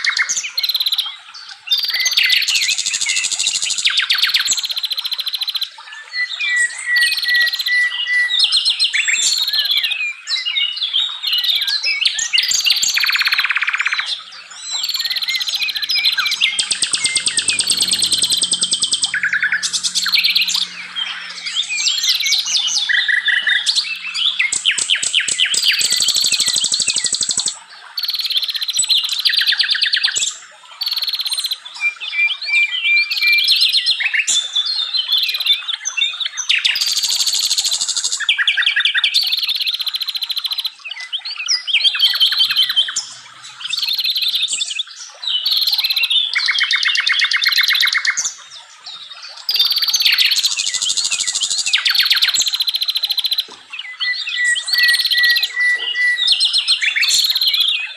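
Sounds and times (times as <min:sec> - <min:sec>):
songbirds chirping and trilling: 0:00.0 - 0:57.9.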